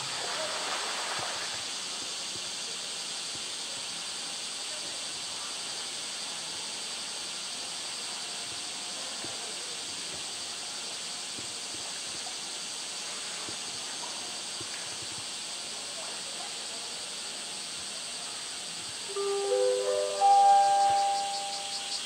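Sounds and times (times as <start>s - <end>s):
steady high-pitched hiss: 0.0s - 22.0s.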